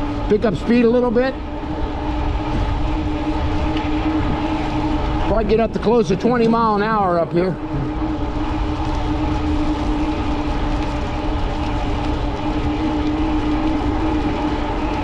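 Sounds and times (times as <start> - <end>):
electric motor hum: 0.0 - 15.0
tyre road noise: 0.0 - 15.0
wind rush: 0.0 - 15.0.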